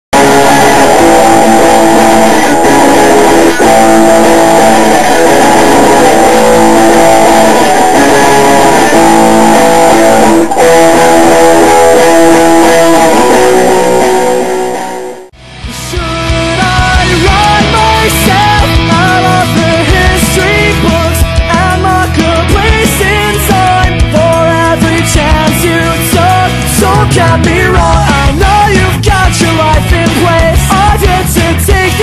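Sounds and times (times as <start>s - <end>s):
loud electric guitar: 0.1s - 32.0s.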